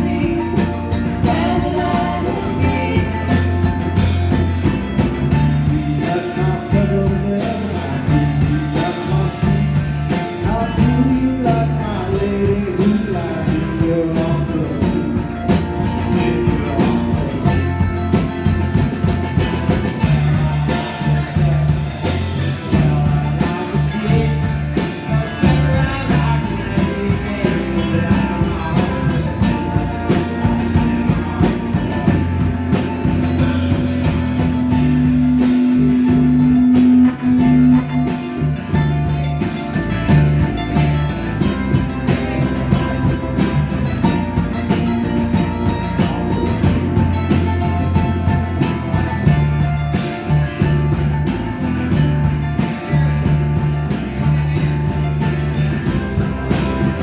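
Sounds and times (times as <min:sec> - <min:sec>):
folk-rock band playing: 0:00.0 - 0:57.0.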